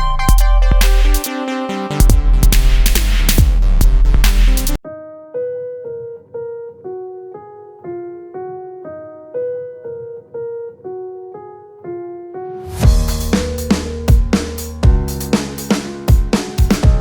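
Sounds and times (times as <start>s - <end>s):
piano melody in electronic track: 0.0s - 17.0s.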